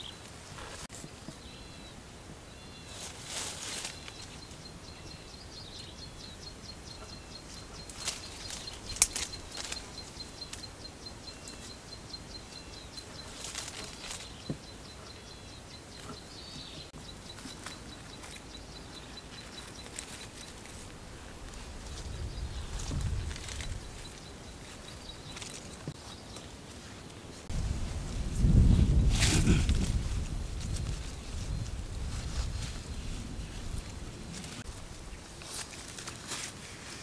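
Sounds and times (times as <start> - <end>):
leaves and sticks rustling: 0.0 - 37.0.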